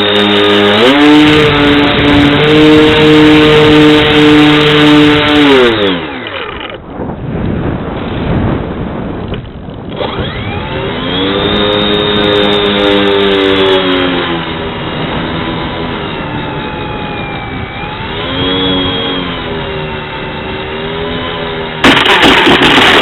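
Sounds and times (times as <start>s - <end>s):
electric motor and propeller whine: 0.0s - 23.0s
wind rush: 0.3s - 6.1s, 6.8s - 23.0s.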